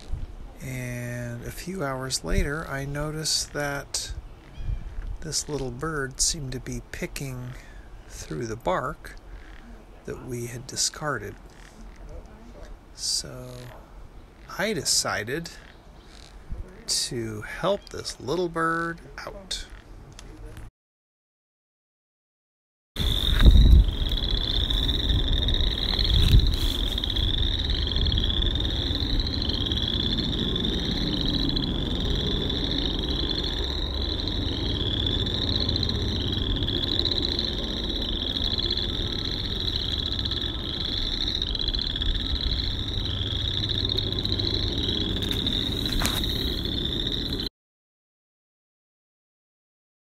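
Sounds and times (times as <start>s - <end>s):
frogs trilling: 0.0s - 12.4s, 13.0s - 19.9s, 23.0s - 47.5s.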